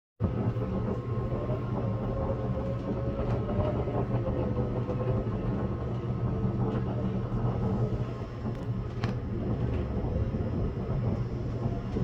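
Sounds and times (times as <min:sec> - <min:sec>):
low mechanical rumble and hum: 0:00.2 - 0:12.0.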